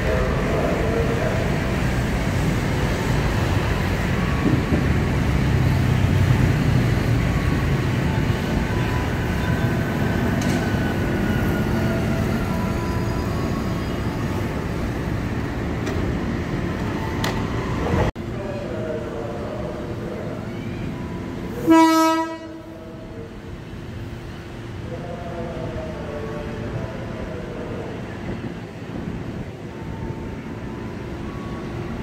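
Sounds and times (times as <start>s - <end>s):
electric train slowing to a stop: 0.0s - 32.0s.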